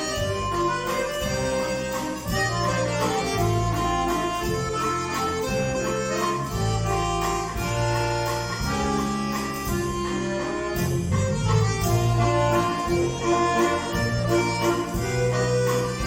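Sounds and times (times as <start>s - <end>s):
button accordions playing melody: 0.0s - 16.0s.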